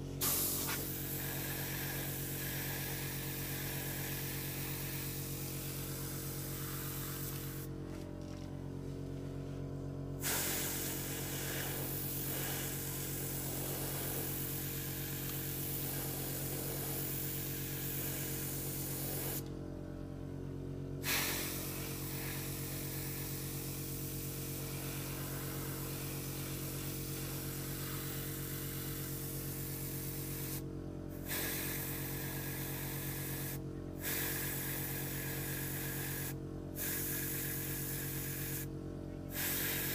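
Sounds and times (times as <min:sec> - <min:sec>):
air compressor humming: 0:00.0 - 0:39.9
airbrush spraying hiss: 0:00.2 - 0:07.7, 0:10.2 - 0:19.4, 0:21.0 - 0:30.6, 0:31.2 - 0:38.7, 0:39.3 - 0:39.9.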